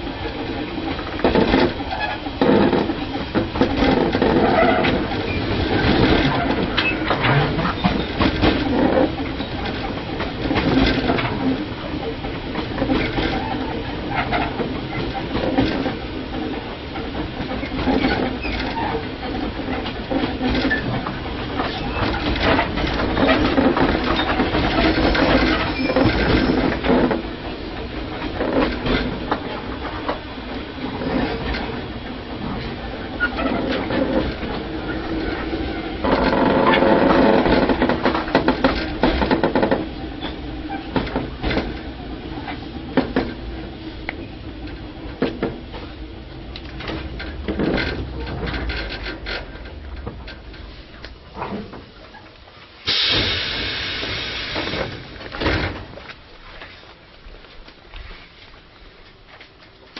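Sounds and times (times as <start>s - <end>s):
wheels clacking over rail joints: 0.0s - 57.9s.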